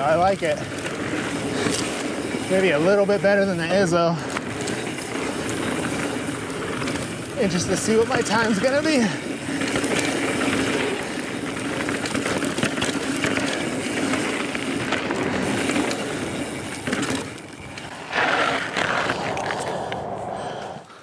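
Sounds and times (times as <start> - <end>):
bike rattling and clicking: 0.0 - 20.9
bike tyres on dirt: 0.0 - 21.0.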